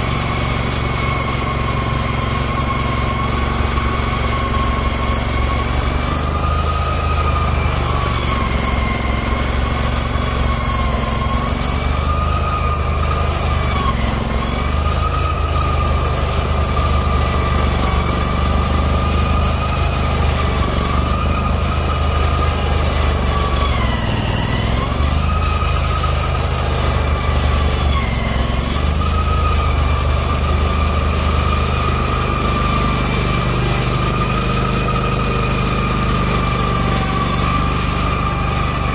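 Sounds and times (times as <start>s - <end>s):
snowblower whine: 0.0s - 38.9s
tractor engine rumbling: 0.0s - 38.9s.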